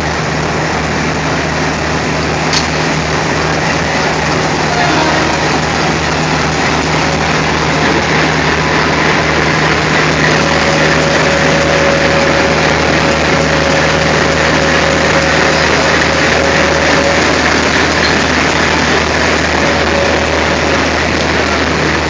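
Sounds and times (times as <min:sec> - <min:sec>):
diesel locomotive engine idling: 0:00.0 - 0:22.0
faint steady whine: 0:00.0 - 0:22.0.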